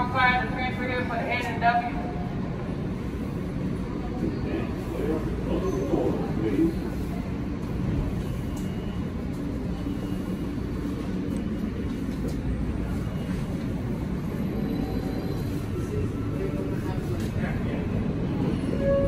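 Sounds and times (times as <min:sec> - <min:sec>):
subway train rumbling past: 0:00.0 - 0:19.0.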